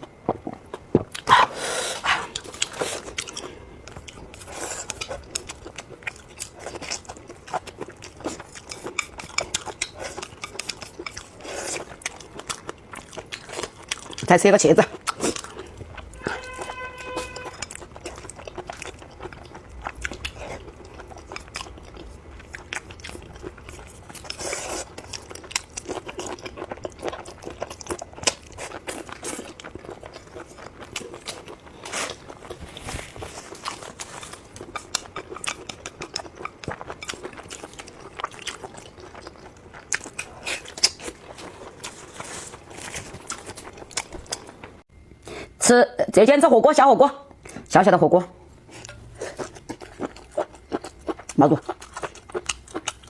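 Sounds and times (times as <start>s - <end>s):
person chewing food: 0.0s - 45.6s, 48.6s - 53.0s.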